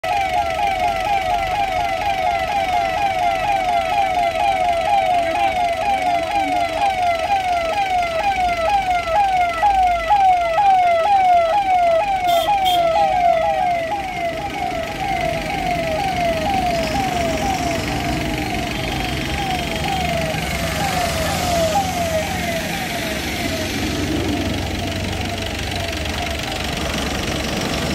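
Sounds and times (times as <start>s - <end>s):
fire engine siren yelping: 0.0s - 27.9s
truck engines running: 0.0s - 27.9s.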